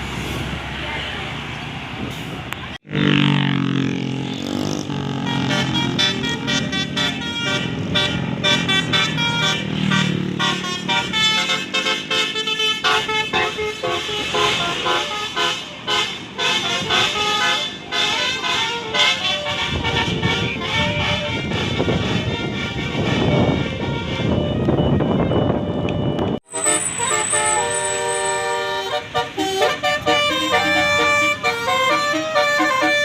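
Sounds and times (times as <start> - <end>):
musical bus horn playing tune: 4.2 - 33.0.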